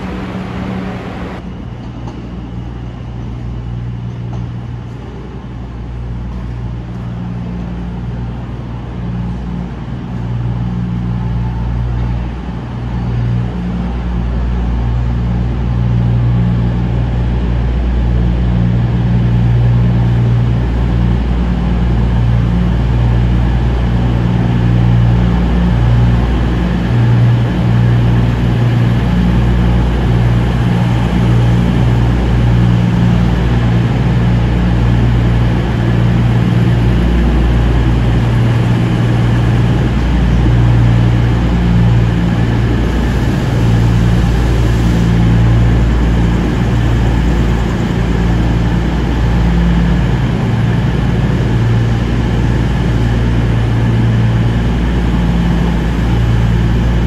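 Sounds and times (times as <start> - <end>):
train diesel engines humming: 0.0 - 57.0.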